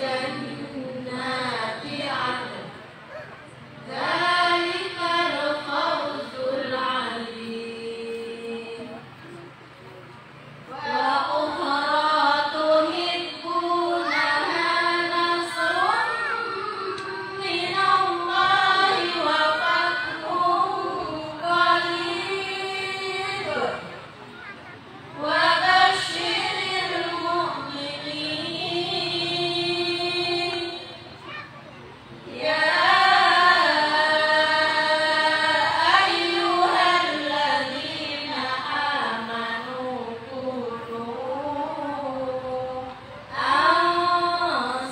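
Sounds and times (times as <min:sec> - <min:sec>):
women chanting in unison: 0:00.0 - 0:02.9, 0:03.8 - 0:09.1, 0:10.7 - 0:24.1, 0:25.0 - 0:30.9, 0:32.2 - 0:44.9.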